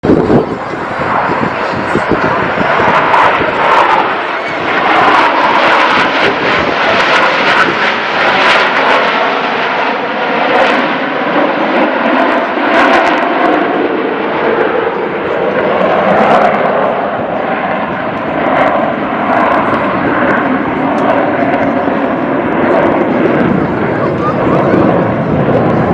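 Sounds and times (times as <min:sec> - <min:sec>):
aircraft engine drone overhead: 0:00.0 - 0:25.9.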